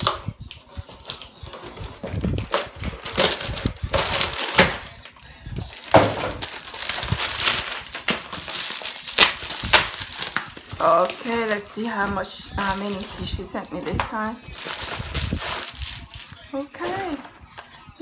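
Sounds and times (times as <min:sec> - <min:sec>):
cardboard rustling and scraping: 0:00.6 - 0:17.4.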